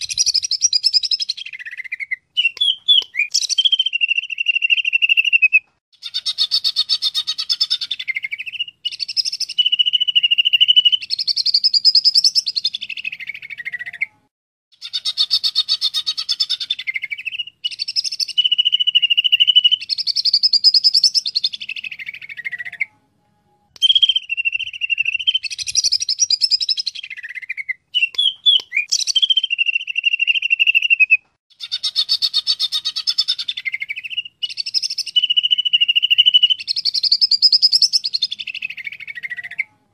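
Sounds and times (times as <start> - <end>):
bird singing trilled phrases: 0.0 - 23.0, 23.8 - 39.8.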